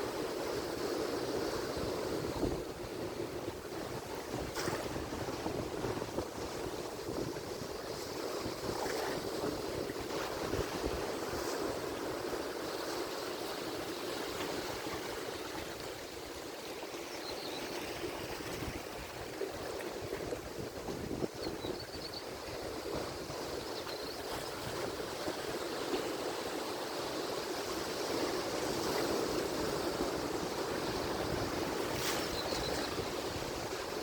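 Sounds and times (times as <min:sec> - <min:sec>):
ocean surf washing ashore: 0:00.0 - 0:17.1, 0:22.3 - 0:34.0.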